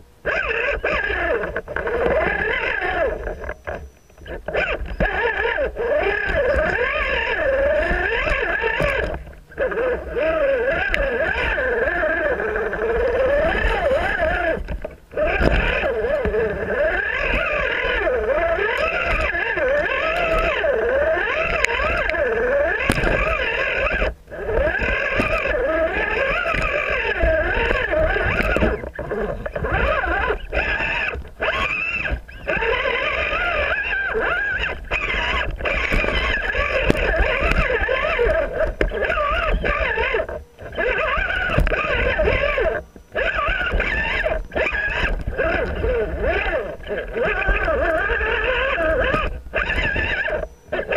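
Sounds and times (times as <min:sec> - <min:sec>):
electric motor and gearbox whining: 0:00.0 - 0:50.9.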